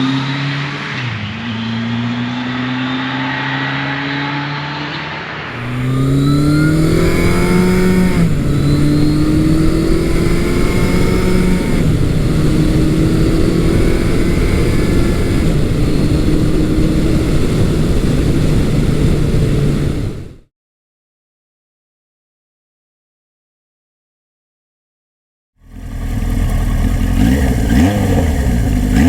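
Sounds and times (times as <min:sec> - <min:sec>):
motorcycle engine accelerating: 0:00.0 - 0:20.5, 0:25.6 - 0:29.0.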